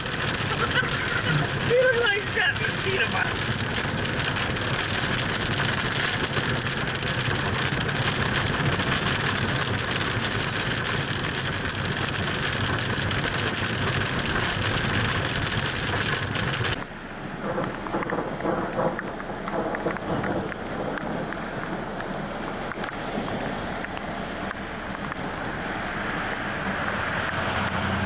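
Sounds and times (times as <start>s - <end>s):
hail rattling on vehicle: 0.0s - 16.8s, 17.4s - 25.3s
engine and tyres humming: 0.0s - 28.0s.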